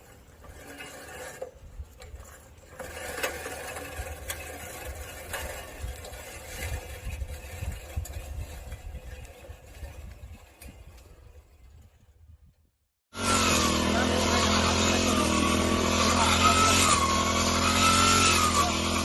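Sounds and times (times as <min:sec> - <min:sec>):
brush cutter engine running: 0:00.0 - 0:10.6, 0:13.1 - 0:19.0.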